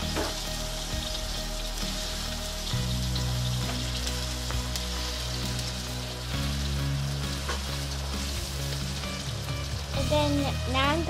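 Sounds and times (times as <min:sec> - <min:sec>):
background music low notes: 0:00.0 - 0:11.0
paste sizzling in hot oil: 0:00.0 - 0:11.0.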